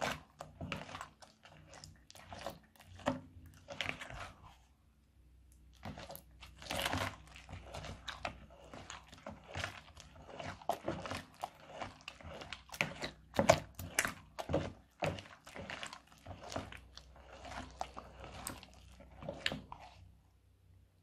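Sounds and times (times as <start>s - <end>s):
spatula squelching crunchy slime: 0.0s - 20.5s.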